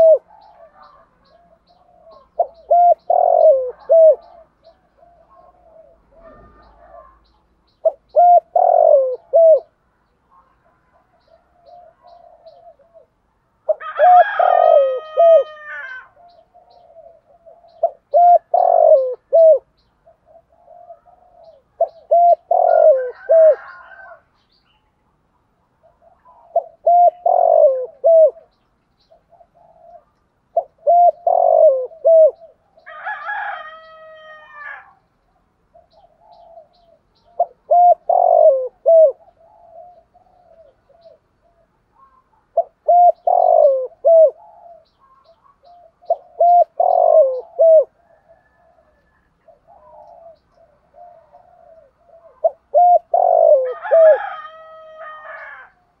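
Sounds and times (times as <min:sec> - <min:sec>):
dove cooing: 0:00.0 - 0:24.6, 0:25.7 - 0:35.0, 0:35.6 - 0:56.0.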